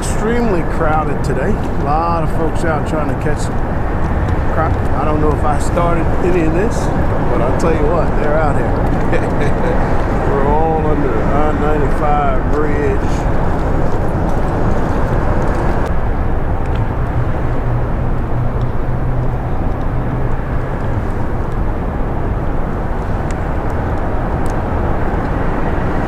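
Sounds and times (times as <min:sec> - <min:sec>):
highway traffic rumble: 0:00.0 - 0:26.0.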